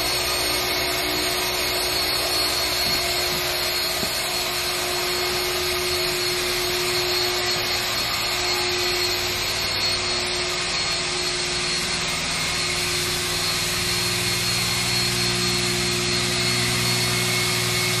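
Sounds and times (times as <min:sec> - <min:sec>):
steady motor whine: 0:00.0 - 0:18.0.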